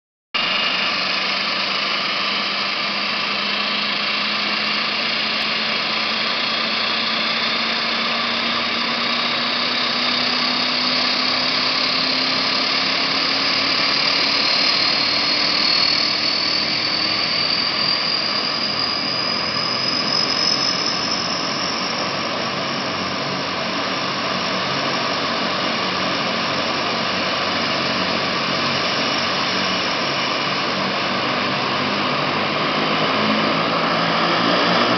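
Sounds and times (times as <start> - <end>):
turboprop engine turbine whine: 0.4 - 34.9.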